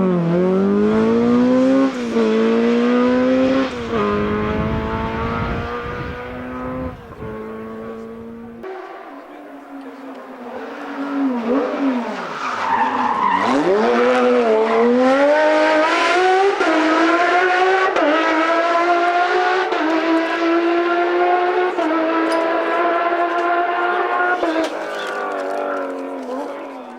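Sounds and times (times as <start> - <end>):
rally car engine revving: 0.0 - 26.9
tyres skidding: 0.2 - 26.9.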